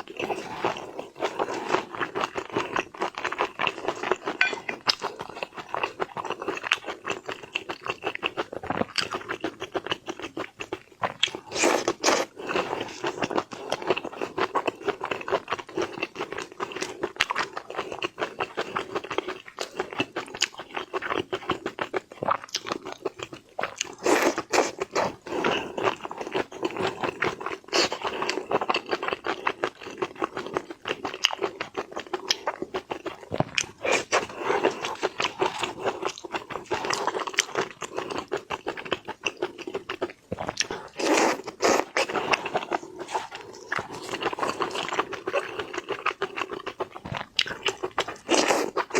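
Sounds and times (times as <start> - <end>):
chewing and crunching: 0.0 - 48.9.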